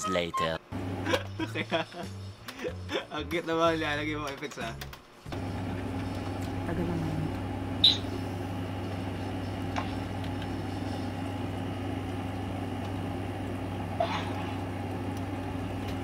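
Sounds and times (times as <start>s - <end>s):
low machine hum: 0.7s - 3.1s, 5.2s - 16.0s.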